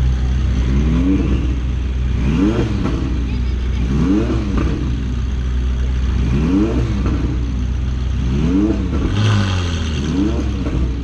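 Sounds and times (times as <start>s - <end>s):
loud engine idle: 0.0s - 9.0s
car engine revving: 0.0s - 11.0s.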